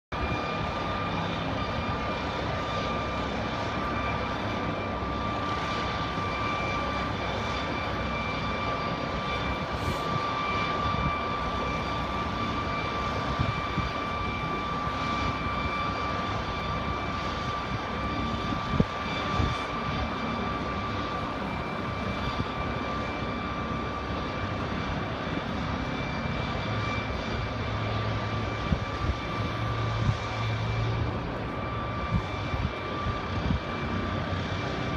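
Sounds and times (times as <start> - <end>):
helicopter turbine whine and rotor roar: 0.1 - 34.9.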